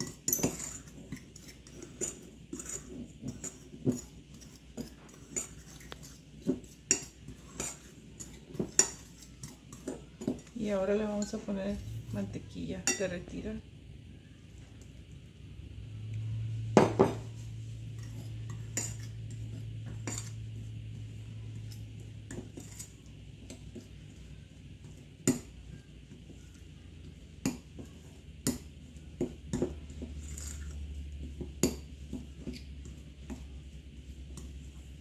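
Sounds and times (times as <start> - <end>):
fork scraping crumbly mix: 0.0 - 12.2, 17.4 - 35.0.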